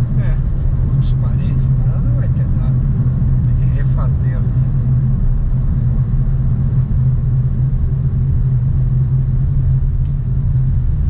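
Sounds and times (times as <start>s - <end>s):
car driving interior rumble: 0.0s - 11.0s.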